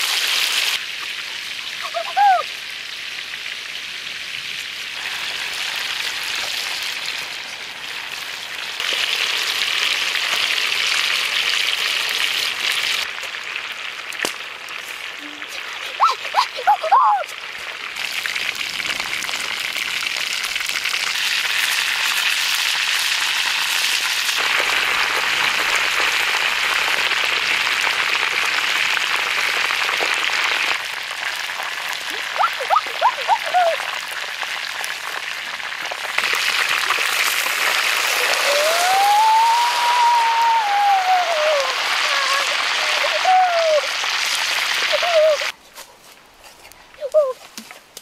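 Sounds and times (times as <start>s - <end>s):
oil sizzling and crackling: 0.0s - 45.6s.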